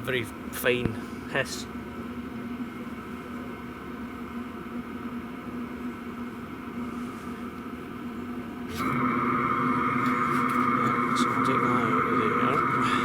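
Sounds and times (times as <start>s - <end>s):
fine exhaust hiss: 0.0s - 13.0s
heater drone with low hum: 0.0s - 13.0s.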